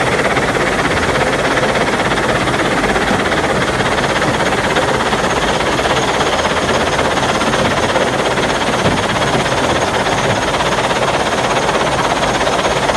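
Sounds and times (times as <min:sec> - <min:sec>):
fast rattle: 0:00.0 - 0:12.9.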